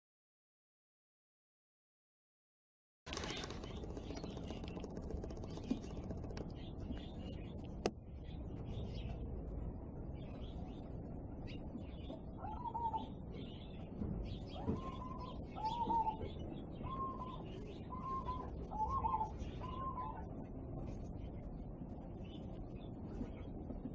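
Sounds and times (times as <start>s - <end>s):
small birds twittering: 3.1s - 23.9s.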